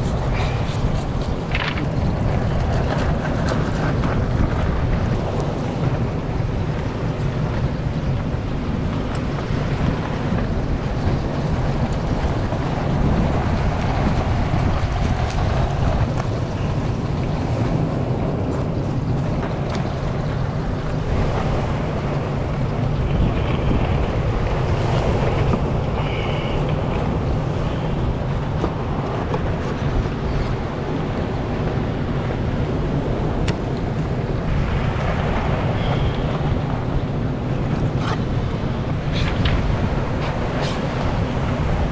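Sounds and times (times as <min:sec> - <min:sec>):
ocean surf: 0:00.0 - 0:41.9
wind noise on microphone: 0:00.0 - 0:41.9.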